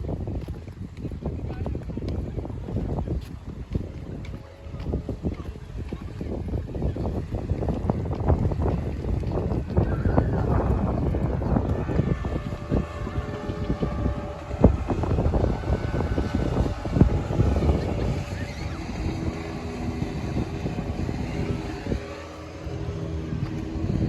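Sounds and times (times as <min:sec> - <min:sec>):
steady engine hum: 0:00.0 - 0:24.0
wind rumbling on microphone: 0:00.0 - 0:24.0.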